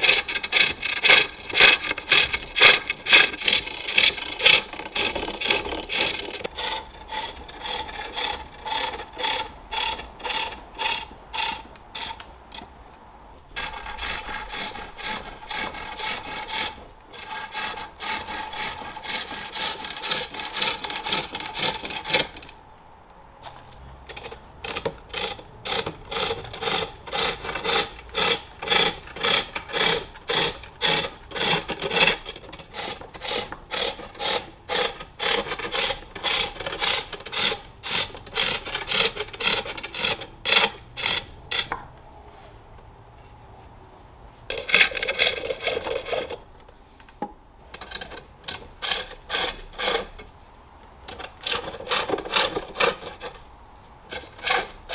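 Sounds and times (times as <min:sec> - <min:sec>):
hook tool scraping wood: 0:00.0 - 0:12.7, 0:13.5 - 0:22.6, 0:23.4 - 0:41.9, 0:44.5 - 0:46.5, 0:47.7 - 0:50.4, 0:51.1 - 0:54.9.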